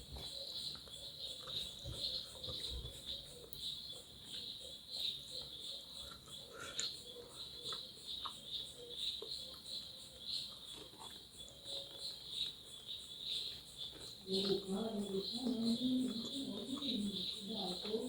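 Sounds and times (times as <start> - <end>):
faint eating clicks: 0.0 - 18.0
insect chirping: 0.0 - 18.0.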